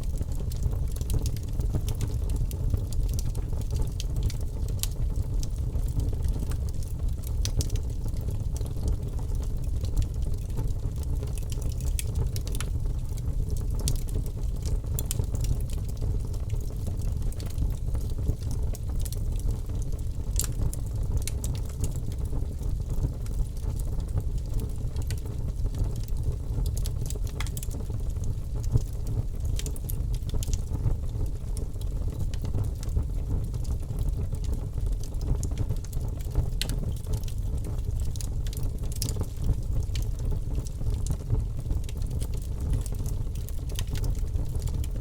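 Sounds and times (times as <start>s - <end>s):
fire crackling and popping: 0.0s - 45.0s
low roar of flames: 0.1s - 45.0s.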